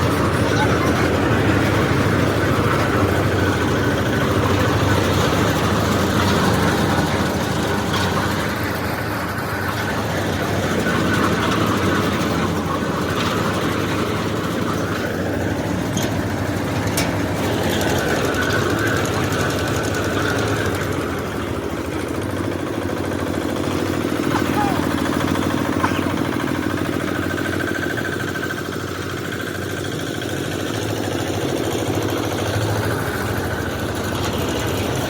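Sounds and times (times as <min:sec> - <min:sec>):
drilling rig engine running: 0:00.0 - 0:35.0.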